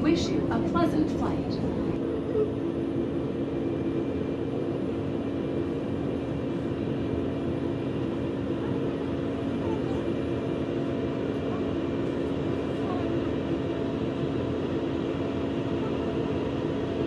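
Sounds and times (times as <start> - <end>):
jet airliner drone: 0.0 - 17.0.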